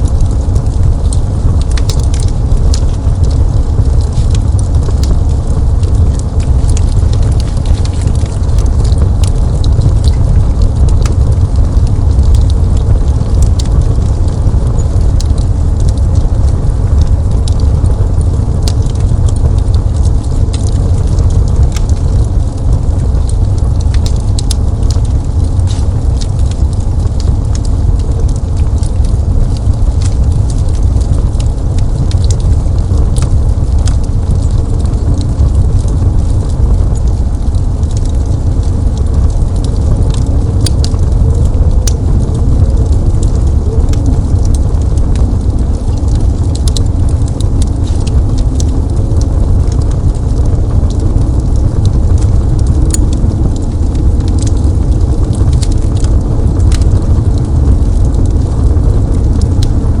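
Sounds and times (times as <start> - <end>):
deep low rumble: 0.0 - 59.9
wood fire crackling: 0.0 - 60.0.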